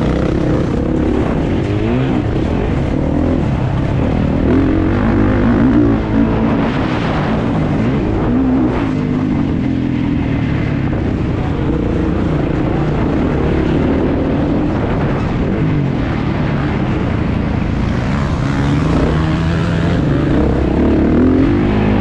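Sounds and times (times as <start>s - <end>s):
motocross bike engine revving: 0.0s - 15.4s, 16.0s - 22.0s
wind noise on microphone: 0.0s - 22.0s.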